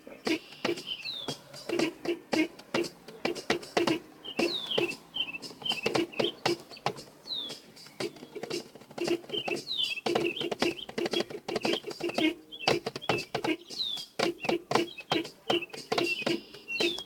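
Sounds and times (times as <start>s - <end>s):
high falling chirp: 0.1s - 17.0s
drum strokes: 0.2s - 17.0s.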